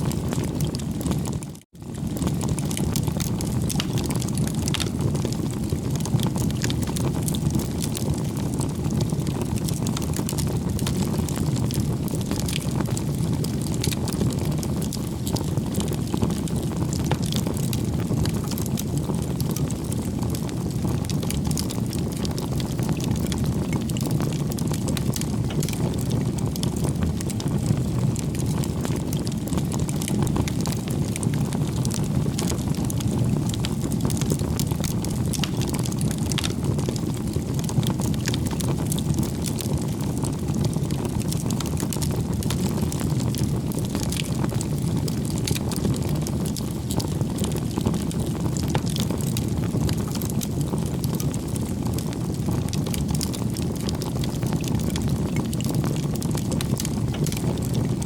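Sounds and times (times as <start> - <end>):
bonfire flames rushing: 0.0 - 58.0
fire crackles and pops: 0.0 - 58.0.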